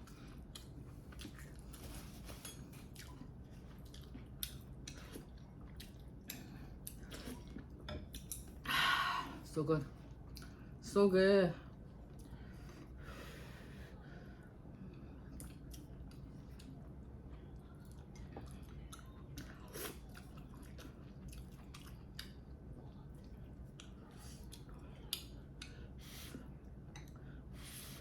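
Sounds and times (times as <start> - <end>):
person chewing food: 0.0 - 8.6, 10.0 - 10.8, 11.7 - 13.0, 14.4 - 28.0.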